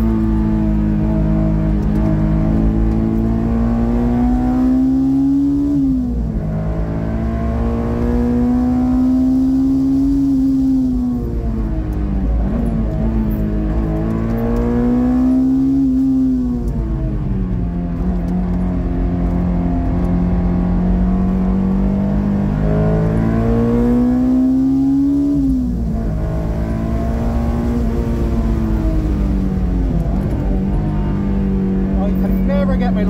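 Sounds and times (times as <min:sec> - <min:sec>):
car engine revving hard: 0:00.0 - 0:11.2, 0:12.4 - 0:16.5, 0:17.9 - 0:33.0.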